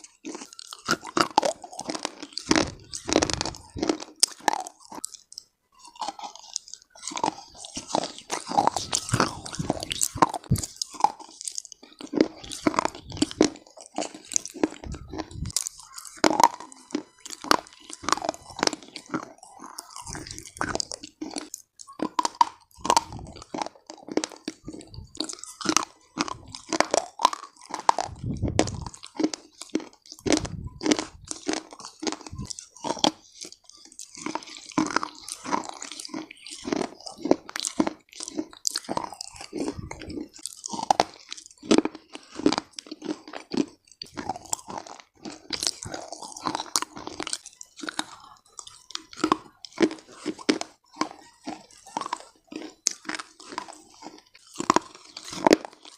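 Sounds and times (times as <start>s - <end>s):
crunchy chewing: 0.0s - 55.9s.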